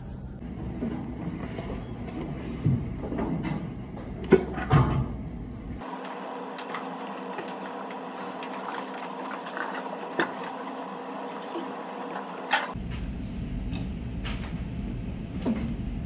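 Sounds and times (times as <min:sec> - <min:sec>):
mechanical room hum: 0:00.0 - 0:16.0.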